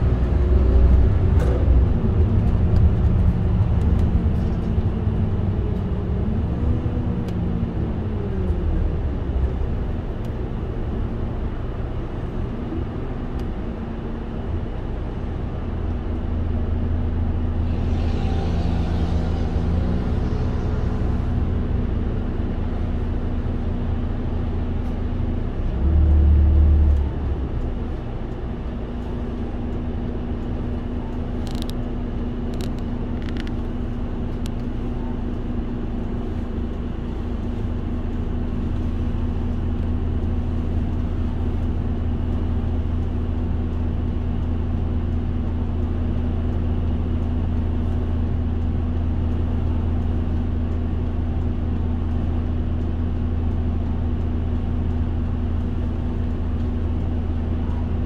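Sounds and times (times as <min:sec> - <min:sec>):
bus diesel engine humming: 0:00.0 - 0:58.0.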